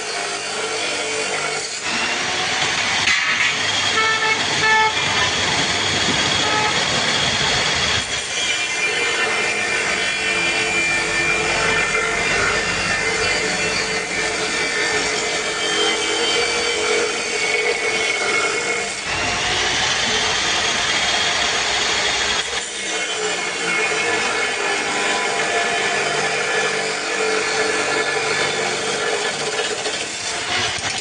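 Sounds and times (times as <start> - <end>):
power cutter grinding: 0.0 - 31.0.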